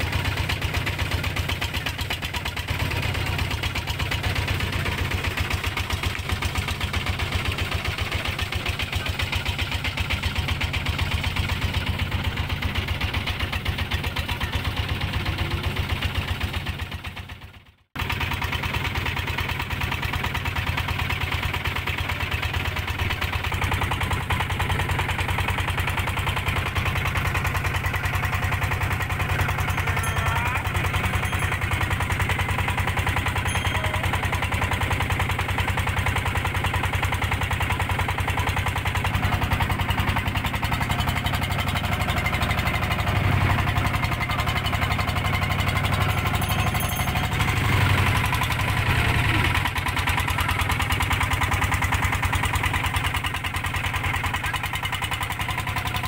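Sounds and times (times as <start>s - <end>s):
boat engine chugging: 0.0s - 56.0s.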